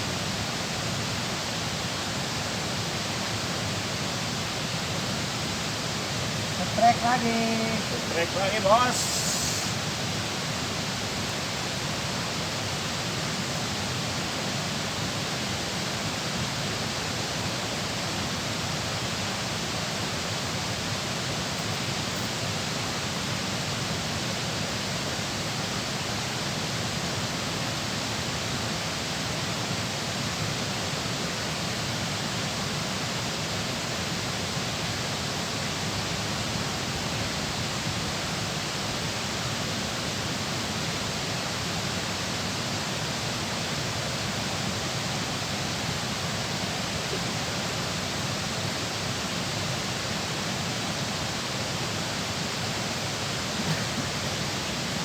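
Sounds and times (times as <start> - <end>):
rush of fast-flowing water: 0.0 - 55.0.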